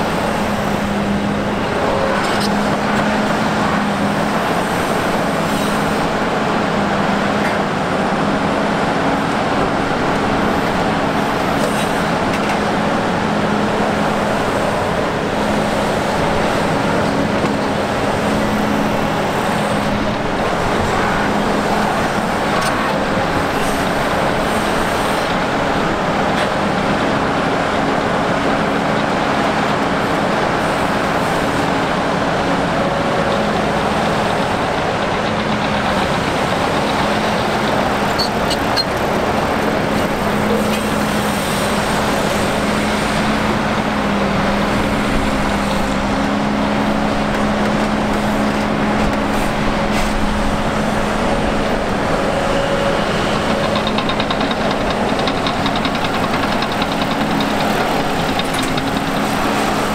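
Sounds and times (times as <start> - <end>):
heavy diesel machinery droning: 0.0 - 59.9.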